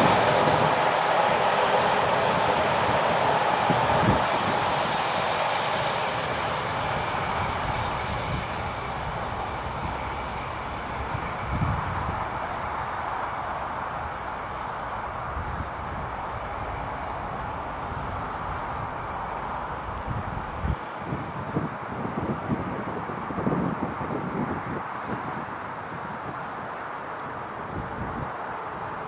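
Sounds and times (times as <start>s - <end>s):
train wheels rumbling on rail: 0.0s - 25.8s.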